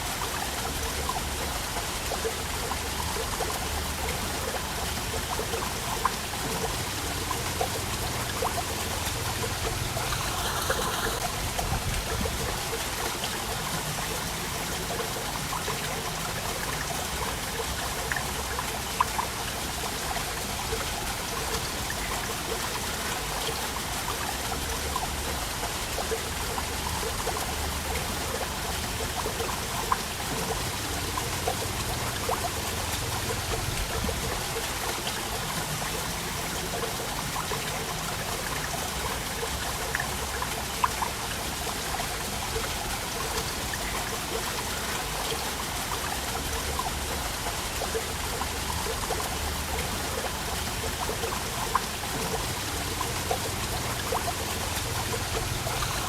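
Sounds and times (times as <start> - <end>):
small water drips: 0.0 - 56.0
waterfall flowing and splashing: 0.0 - 56.0.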